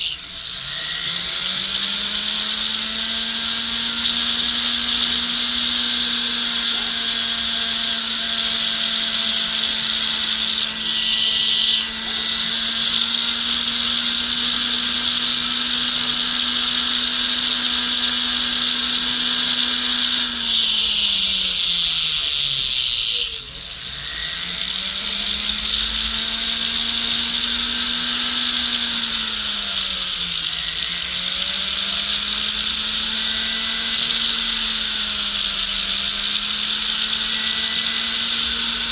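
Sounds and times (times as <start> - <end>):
rotary tool grinding: 0.0 - 38.9.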